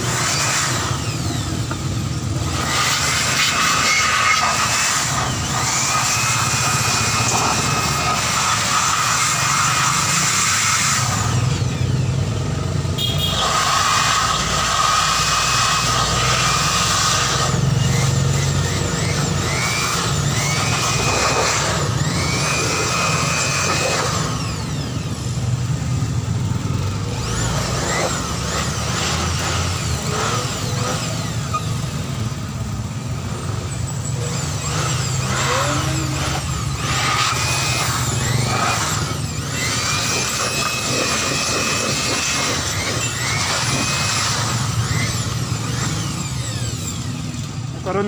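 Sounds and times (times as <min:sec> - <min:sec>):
electric blower motor whining: 0:00.0 - 0:48.0.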